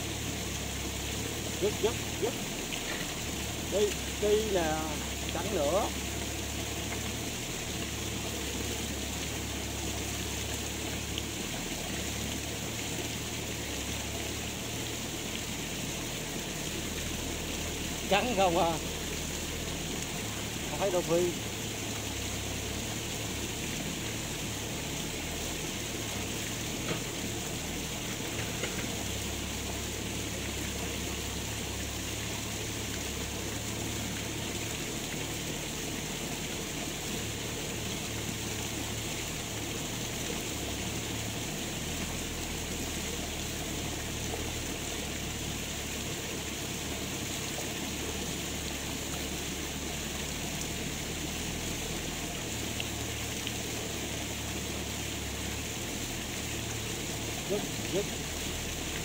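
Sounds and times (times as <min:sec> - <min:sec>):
rushing water noise: 0:00.0 - 0:59.0.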